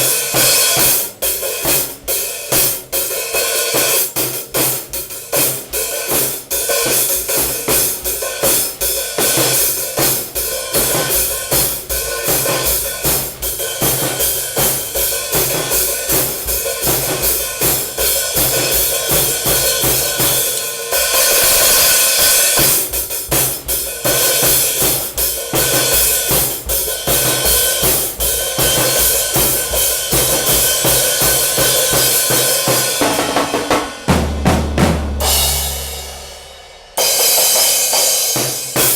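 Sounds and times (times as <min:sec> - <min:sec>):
cymbals washing: 0:00.0 - 0:33.3
snare drum: 0:00.0 - 0:38.9
bass drum: 0:03.7 - 0:37.1.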